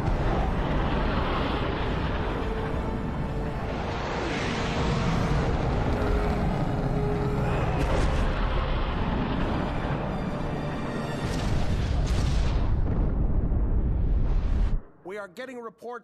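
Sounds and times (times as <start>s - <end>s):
missile in flight roaring: 0.0s - 14.8s.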